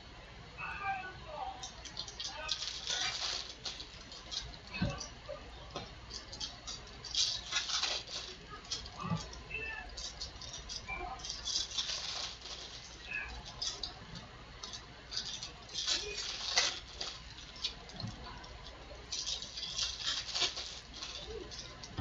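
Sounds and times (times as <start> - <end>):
trading cards rustling: 1.6 - 22.0.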